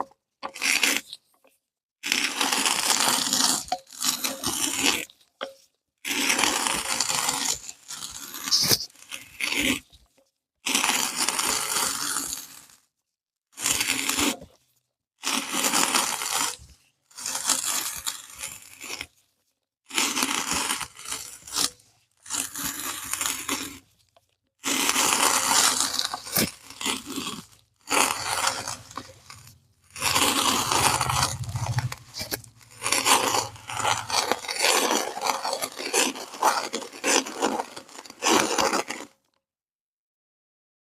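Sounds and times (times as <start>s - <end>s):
sand crunching in meat grinder: 0.5s - 1.2s, 2.0s - 9.9s, 10.6s - 12.8s, 13.5s - 14.5s, 15.2s - 19.2s, 19.9s - 39.2s.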